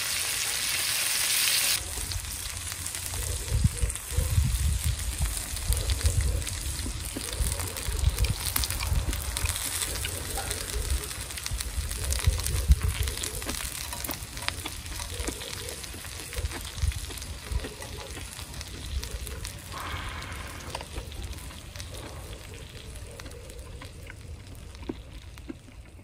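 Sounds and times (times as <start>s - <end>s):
meat sizzling on griddle: 0.0s - 24.8s.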